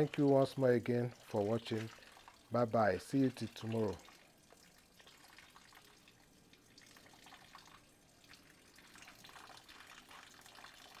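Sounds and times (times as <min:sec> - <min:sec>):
water dripping and splashing: 0:00.0 - 0:11.0.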